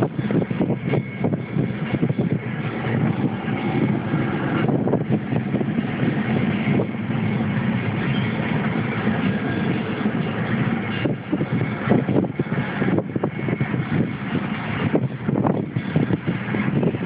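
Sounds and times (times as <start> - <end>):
faint high wheel ring: 0.0 - 17.0
freight train wheels rumbling: 0.0 - 17.0.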